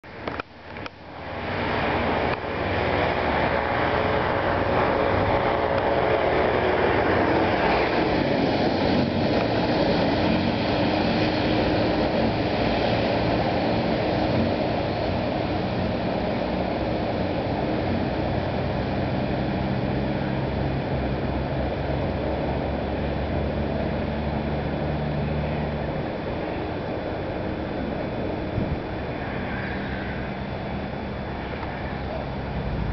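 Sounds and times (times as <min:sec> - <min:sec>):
constant rushing noise: 0:00.0 - 0:32.9
vehicle engine hum: 0:00.0 - 0:32.9.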